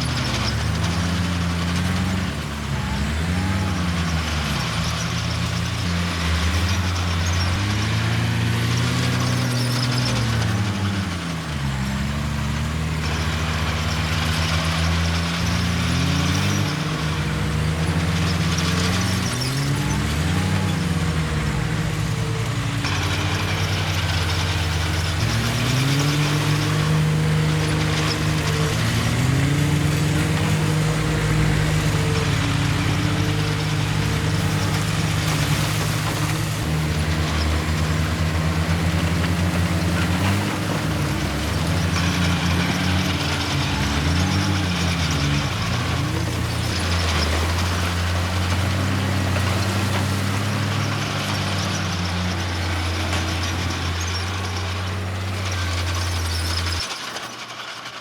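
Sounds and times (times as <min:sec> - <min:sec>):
heavy diesel engines revving: 0:00.0 - 0:58.0.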